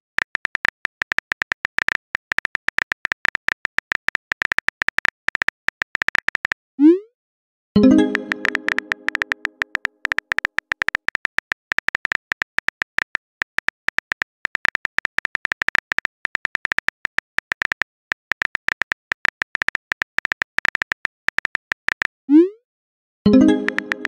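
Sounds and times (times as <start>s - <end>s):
phone keyboard key clicks: 0.0s - 6.6s, 8.1s - 22.1s, 23.6s - 24.0s.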